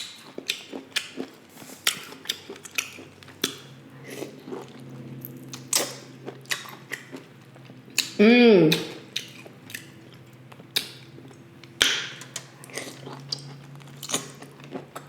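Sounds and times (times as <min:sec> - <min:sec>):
person chewing: 0:00.0 - 0:15.0
low steady hum: 0:01.3 - 0:15.0.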